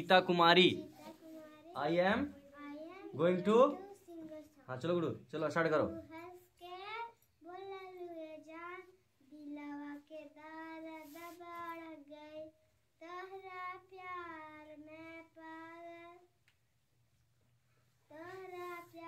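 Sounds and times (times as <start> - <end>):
girl singing unaccompanied: 0.6 - 4.8, 5.8 - 16.4, 18.0 - 19.0.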